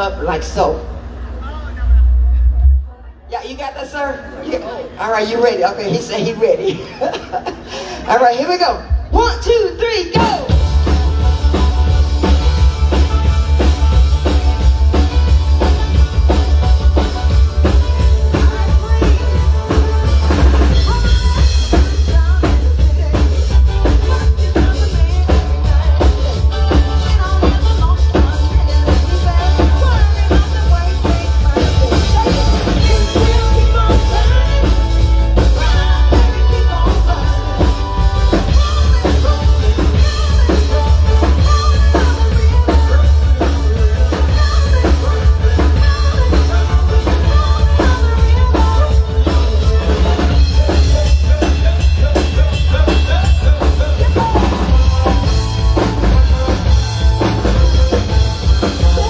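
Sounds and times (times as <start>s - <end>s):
loud live band music: 3.9s - 59.0s
drum kit beat: 10.1s - 59.0s
heavy bass line: 10.2s - 59.0s.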